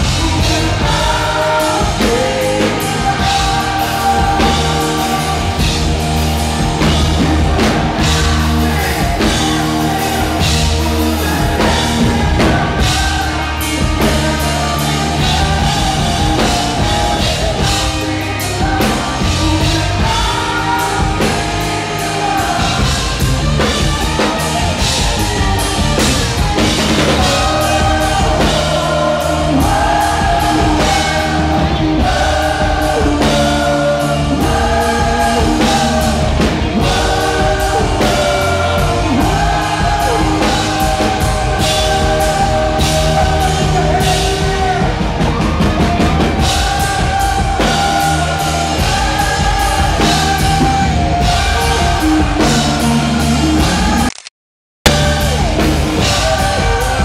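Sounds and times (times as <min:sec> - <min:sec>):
man singing: 0:00.0 - 0:54.1, 0:54.9 - 0:57.0
drum kit: 0:00.0 - 0:54.2, 0:54.8 - 0:57.0
live rock band playing: 0:00.0 - 0:54.2, 0:54.9 - 0:57.0.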